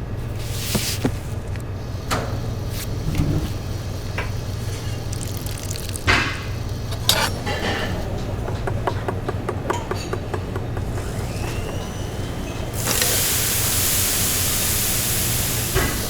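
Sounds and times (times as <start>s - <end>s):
steady low hum: 0.0s - 15.6s
utensils and dishes clattering: 0.3s - 13.8s.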